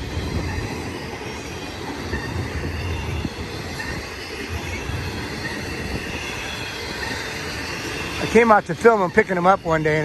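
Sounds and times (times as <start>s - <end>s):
freight train rolling past: 0.0s - 10.0s.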